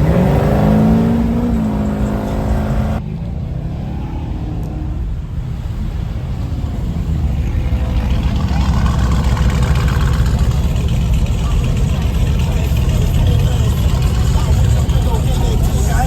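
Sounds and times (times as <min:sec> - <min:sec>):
car engine revving: 0:00.0 - 0:16.0
low engine rumble: 0:00.0 - 0:16.0.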